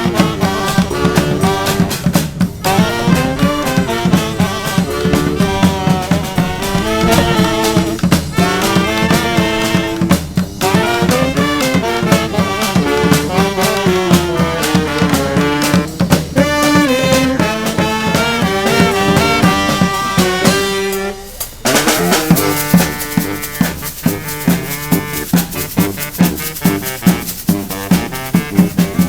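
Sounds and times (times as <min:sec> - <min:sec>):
brass band playing: 0:00.0 - 0:29.0
crashing percussion: 0:00.0 - 0:29.0.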